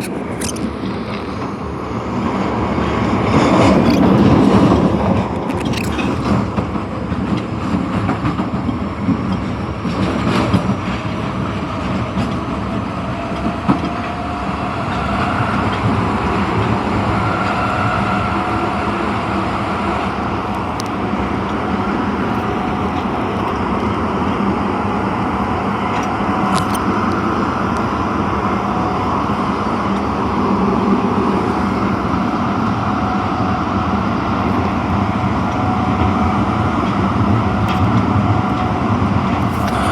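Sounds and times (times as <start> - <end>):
high-pitched running whine: 0.0 - 7.1, 14.0 - 39.9
subway train wheels rumbling on rail: 0.6 - 5.5, 6.2 - 39.5.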